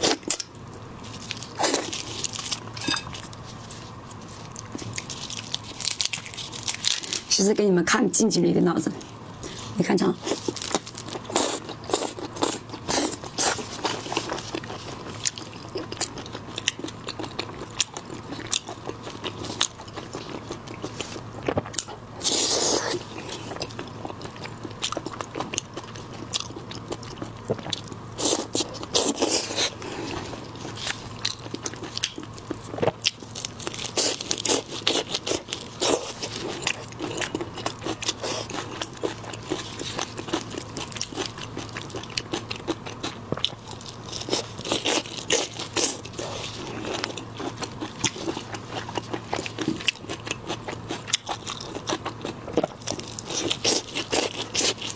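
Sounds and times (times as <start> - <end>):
chewing and crunching: 0.0 - 7.4, 9.0 - 54.9.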